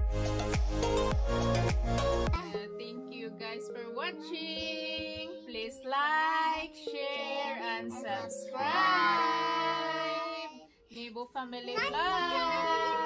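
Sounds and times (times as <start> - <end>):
soft background music: 0.0 - 13.0
woman and girls singing: 2.4 - 13.0.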